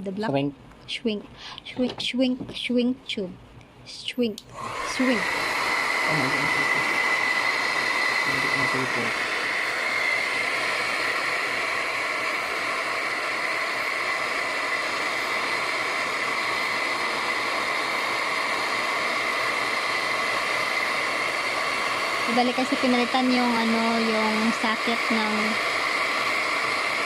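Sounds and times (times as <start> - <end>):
hot-air welder gun blowing: 4.5 - 27.0.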